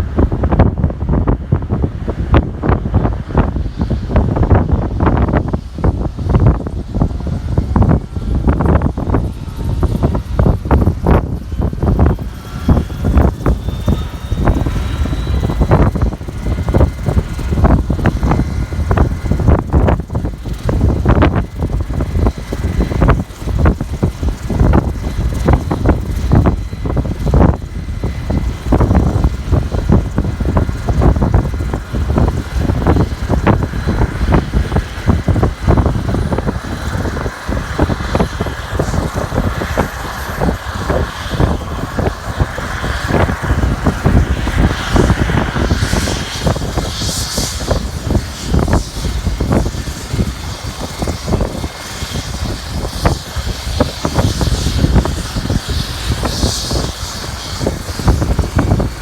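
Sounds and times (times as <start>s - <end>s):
helicopter rotor rumble: 0.0s - 59.0s
turbine whine: 0.0s - 59.0s
wind buffeting microphone: 0.0s - 59.0s.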